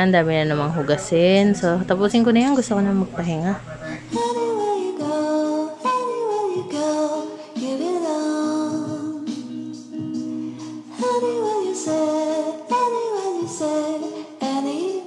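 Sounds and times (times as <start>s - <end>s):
pop song with singing: 0.0s - 15.0s.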